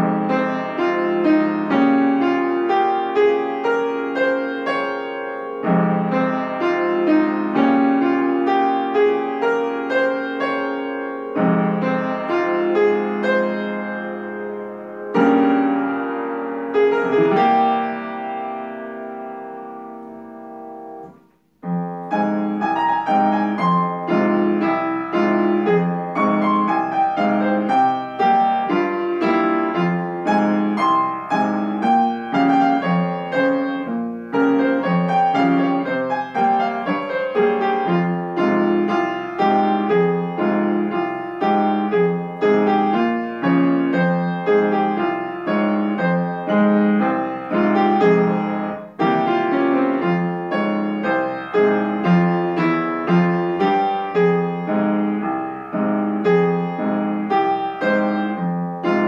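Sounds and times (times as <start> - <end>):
solo piano melody: 0.0 - 59.0.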